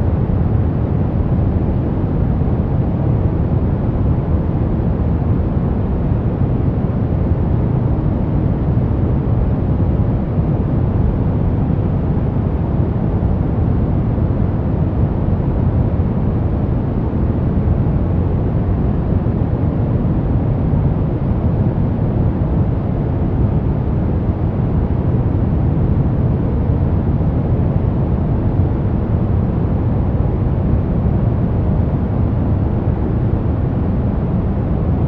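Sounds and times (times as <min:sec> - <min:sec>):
deep rumbling white noise: 0:00.0 - 0:35.0.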